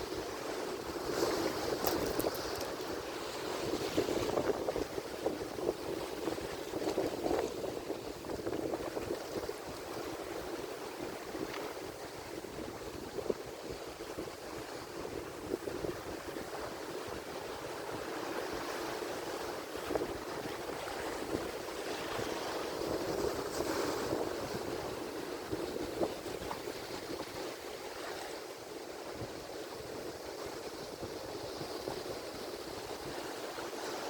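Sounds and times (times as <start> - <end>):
waves breaking and washing ashore: 0.0 - 34.0.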